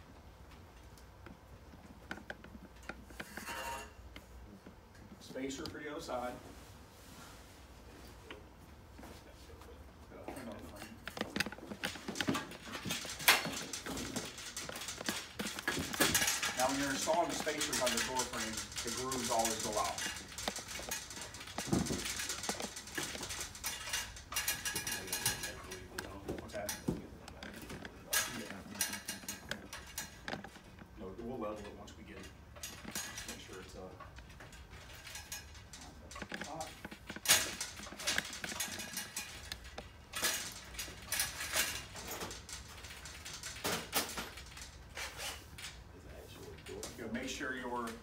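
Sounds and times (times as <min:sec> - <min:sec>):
metallic clatter and knocks: 0:00.7 - 0:04.2, 0:10.2 - 0:48.0
rustling: 0:01.6 - 0:48.0.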